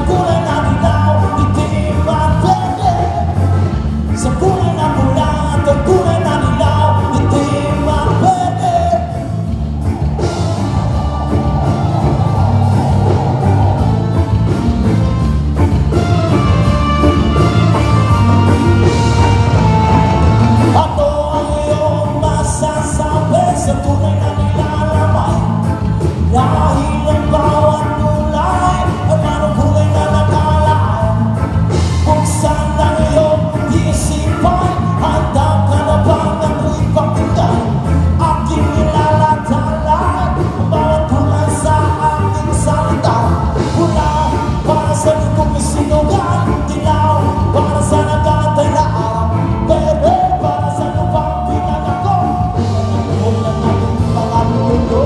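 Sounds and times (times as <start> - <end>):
lead singer singing: 0.0 - 55.0
live rock band playing: 0.0 - 55.0.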